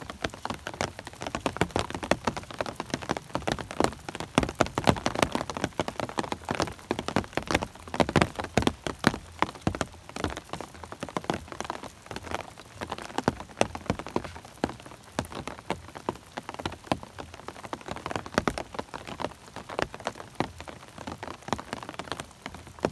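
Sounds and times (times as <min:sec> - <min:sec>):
raindrops tapping on umbrella: 0:00.0 - 0:22.9
steady hiss of rain: 0:00.0 - 0:22.9.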